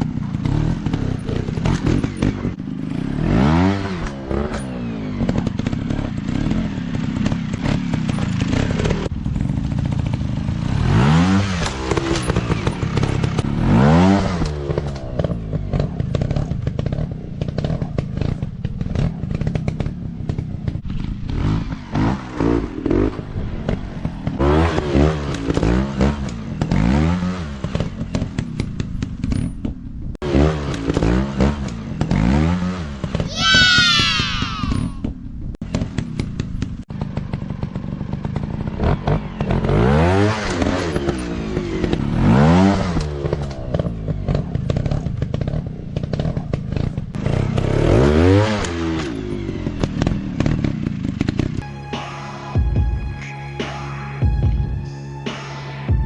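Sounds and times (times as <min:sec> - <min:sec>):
dirt bike engines revving: 0:00.0 - 0:28.5, 0:30.2 - 0:35.0, 0:35.9 - 0:51.6.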